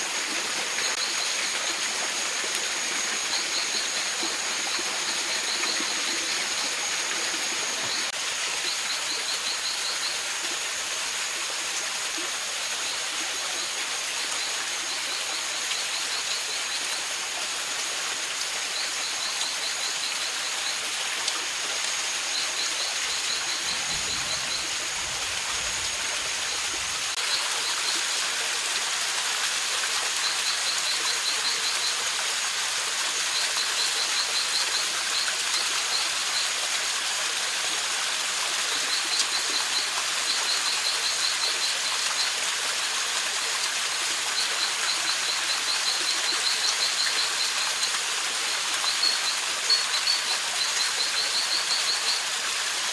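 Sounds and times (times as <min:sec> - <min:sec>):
mountain stream running: 0:00.0 - 0:52.9.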